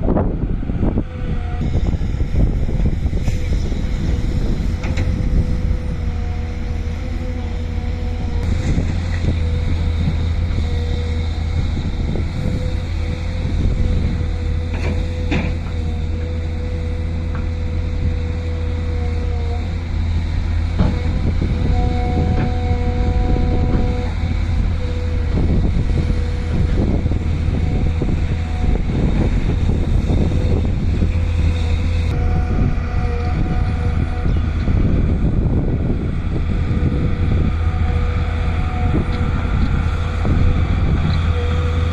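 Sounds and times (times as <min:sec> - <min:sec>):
diesel engine running: 0:00.0 - 0:41.9
engine whine: 0:00.0 - 0:41.9.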